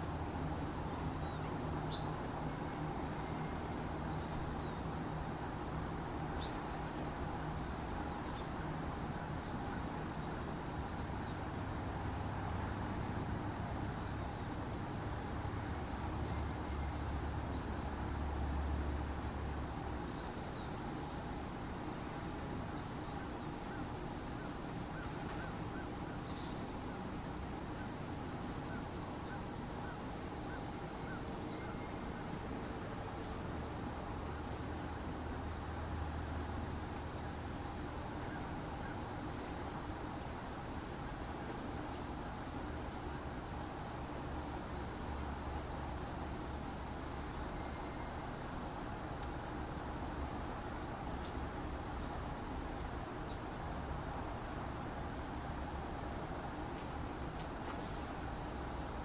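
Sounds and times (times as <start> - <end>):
high insect trill: 0.0 - 59.0.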